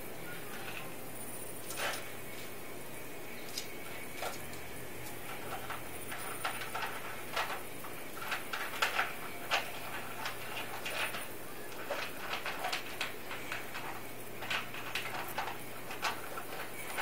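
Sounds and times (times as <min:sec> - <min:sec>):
kibble and bowl rattling: 0:00.3 - 0:02.1, 0:03.5 - 0:17.0.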